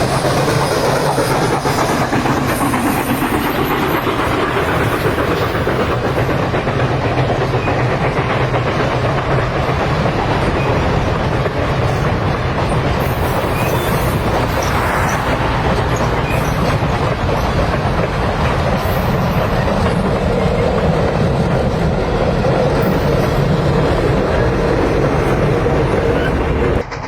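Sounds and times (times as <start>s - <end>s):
train wheels clattering on rails: 0.0s - 27.0s.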